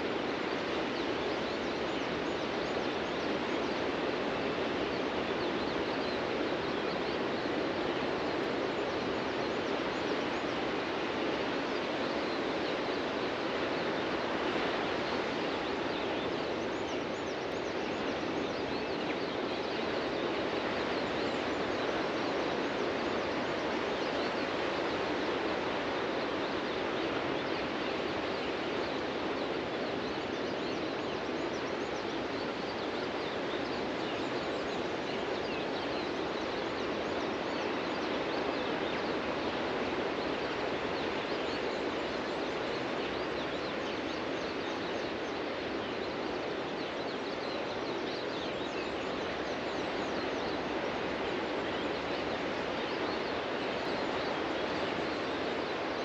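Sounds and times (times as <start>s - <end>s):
ocean surf on a beach: 0.0s - 56.0s.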